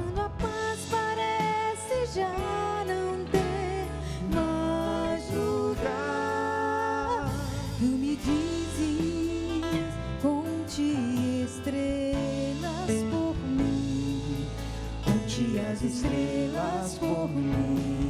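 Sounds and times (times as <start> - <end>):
live band playing: 0.0 - 18.0
woman singing: 0.0 - 18.0.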